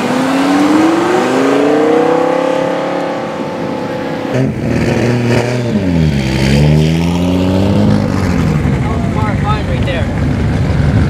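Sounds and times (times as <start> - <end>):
car engine pulling off: 0.0 - 11.0
sports car engine accelerating: 0.0 - 11.0.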